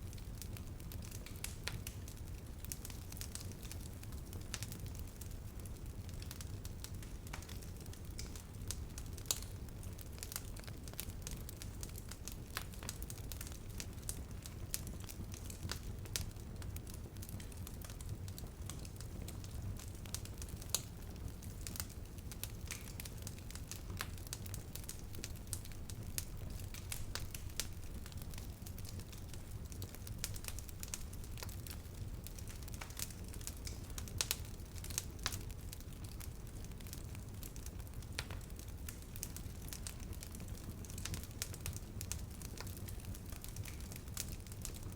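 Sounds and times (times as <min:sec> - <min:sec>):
low rumble of burning wood: 0:00.0 - 0:44.9
campfire crackling and popping: 0:00.1 - 0:44.9.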